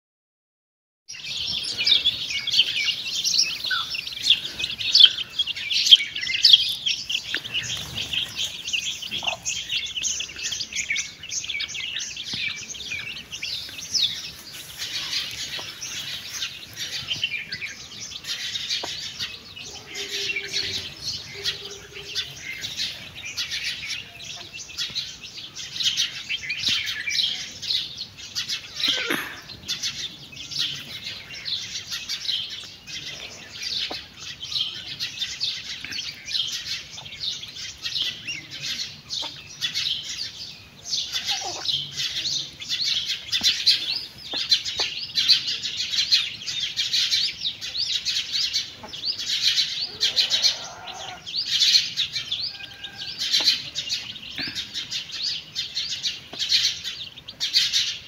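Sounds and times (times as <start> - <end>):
chicks peeping: 1.2 - 58.0.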